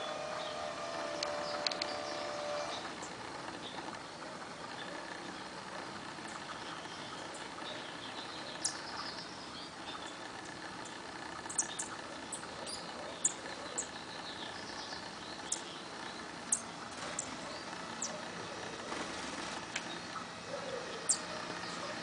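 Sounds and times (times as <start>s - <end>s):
birds chirping: 0.0s - 22.0s
outdoor background hum: 0.0s - 22.0s.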